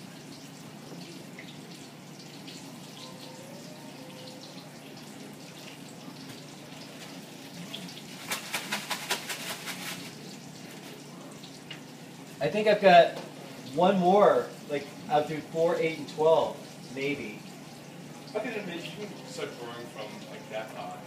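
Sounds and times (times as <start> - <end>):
food sizzling in oil: 0.0 - 8.6, 9.8 - 21.0.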